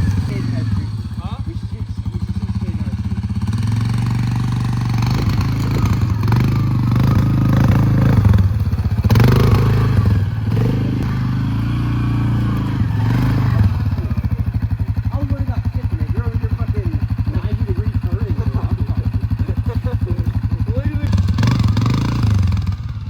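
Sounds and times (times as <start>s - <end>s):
small petrol engine revving: 0.0s - 23.0s.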